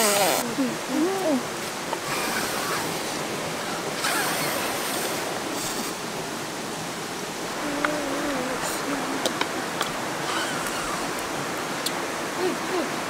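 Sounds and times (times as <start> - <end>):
steady rushing noise: 0.4 - 13.0.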